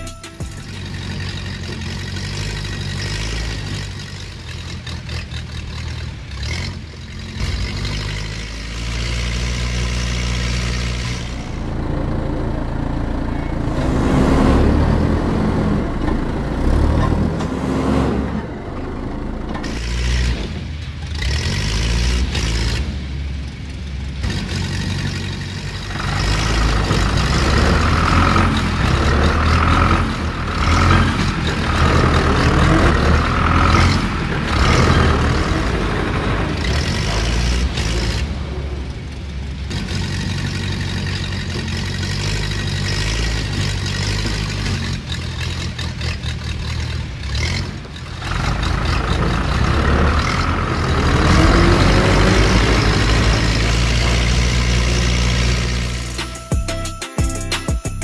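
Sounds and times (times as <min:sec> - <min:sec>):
heavy truck engine revving: 0:00.0 - 0:56.4.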